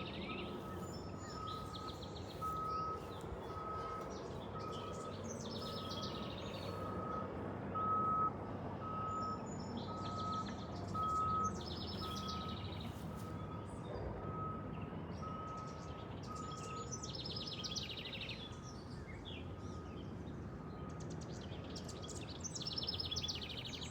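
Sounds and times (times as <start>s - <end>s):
small birds singing: 0.0s - 7.1s, 9.1s - 13.8s, 14.7s - 23.9s.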